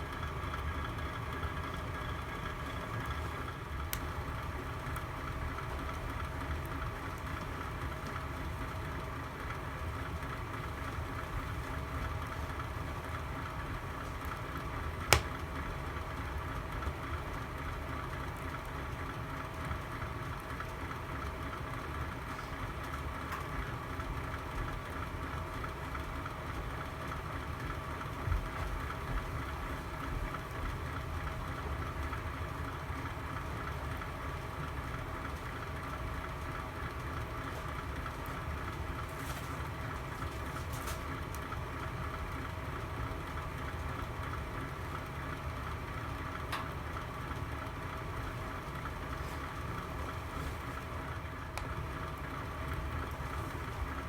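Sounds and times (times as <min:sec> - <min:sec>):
fire burning with low rumble: 0:00.0 - 0:54.0
fire crackles: 0:00.1 - 0:54.0.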